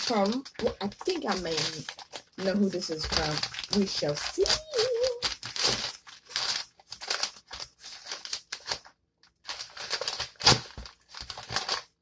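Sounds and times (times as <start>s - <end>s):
hand rummaging in paper: 0.0s - 12.0s
paper mailer crinkling: 0.0s - 12.0s.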